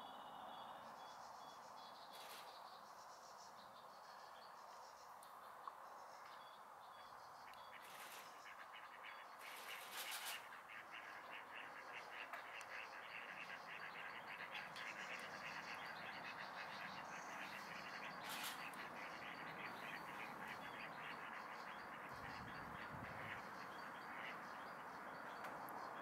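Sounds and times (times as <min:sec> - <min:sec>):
small birds singing and chattering: 0:00.1 - 0:26.0.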